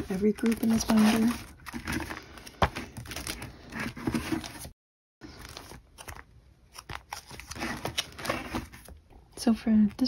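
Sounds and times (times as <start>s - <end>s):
plastic sleeves crinkling: 0.0s - 9.0s.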